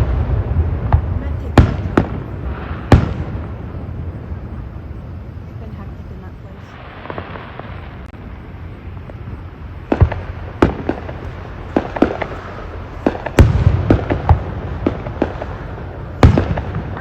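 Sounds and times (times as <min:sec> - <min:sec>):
background hiss: 0:00.0 - 0:17.0
deep rumble: 0:00.0 - 0:17.0
fireworks bangs: 0:00.0 - 0:17.0.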